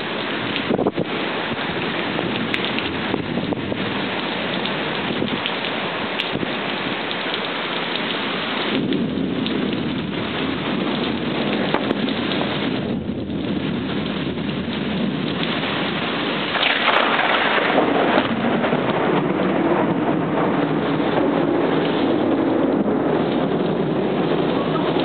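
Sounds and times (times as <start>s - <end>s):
heavy rain falling: 0.0s - 25.0s
thunder rumbling: 0.0s - 25.0s.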